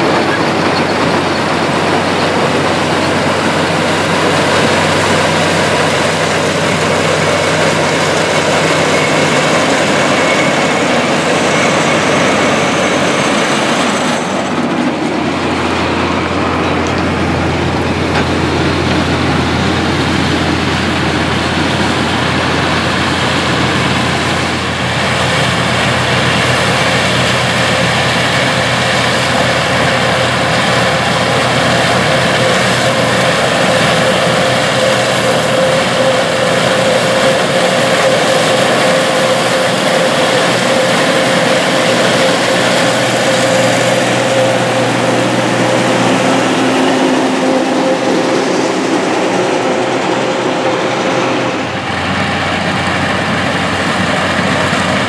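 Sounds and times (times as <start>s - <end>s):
corn picker harvesting: 0.0s - 55.0s
deeper engine note: 0.0s - 55.0s
tractor engines under load: 0.0s - 55.0s.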